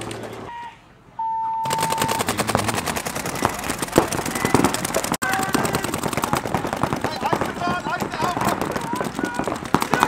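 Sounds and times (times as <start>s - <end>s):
paintball markers firing: 1.7s - 10.0s.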